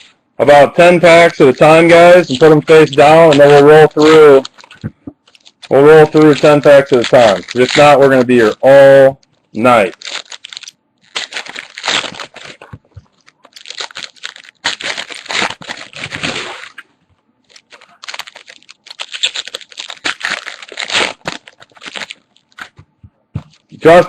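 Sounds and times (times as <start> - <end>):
card pack wrappers tearing: 1.0 - 9.0, 9.6 - 16.8, 17.4 - 22.8.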